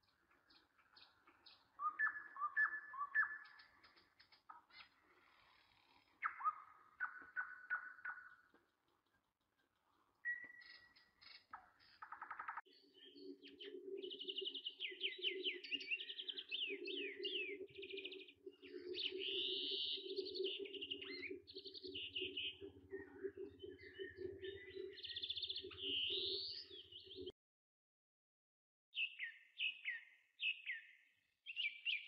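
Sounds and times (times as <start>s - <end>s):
birds chirping and trilling: 0.0s - 27.3s, 29.0s - 32.0s.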